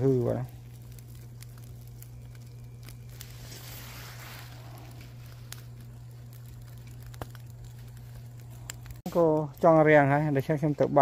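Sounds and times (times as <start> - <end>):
small fire crackling and popping: 0.0 - 11.0
soft hissing rush: 0.0 - 11.0
steady low hum: 0.0 - 11.0.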